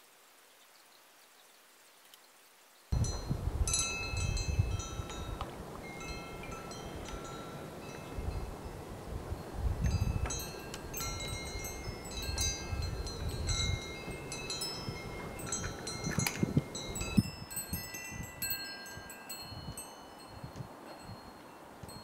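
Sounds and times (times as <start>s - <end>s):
wind chimes ringing: 3.0s - 22.0s.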